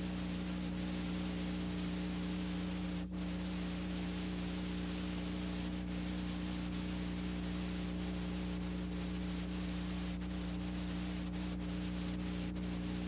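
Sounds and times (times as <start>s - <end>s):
constant low hum: 0.0s - 13.0s
steady tape hiss: 0.0s - 13.0s.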